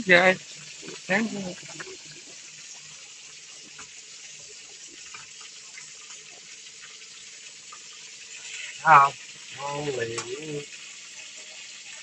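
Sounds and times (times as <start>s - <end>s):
fish sizzling in oil: 0.0s - 12.0s
oil popping and crackling: 0.0s - 12.0s.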